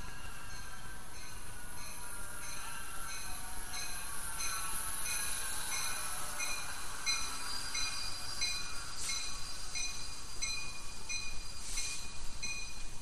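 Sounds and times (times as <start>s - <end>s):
train rolling past: 0.0s - 13.0s.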